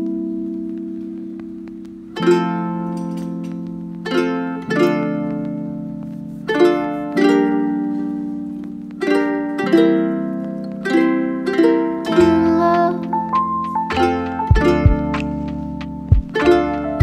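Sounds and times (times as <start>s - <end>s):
plucked string chords: 0.0s - 17.0s.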